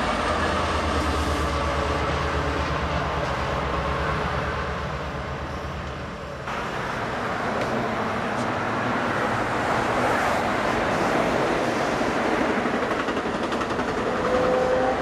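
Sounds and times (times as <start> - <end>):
highway traffic: 0.0 - 15.0
train wheel noise rushing: 0.0 - 15.0.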